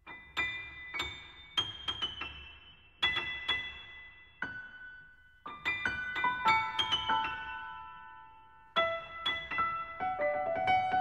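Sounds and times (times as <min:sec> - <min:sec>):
piano notes and chords: 0:00.0 - 0:11.0.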